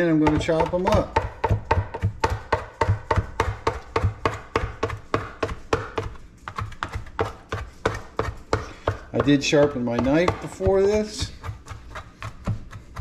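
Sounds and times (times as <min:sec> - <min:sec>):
knife chopping on cutting board: 0:00.0 - 0:13.0.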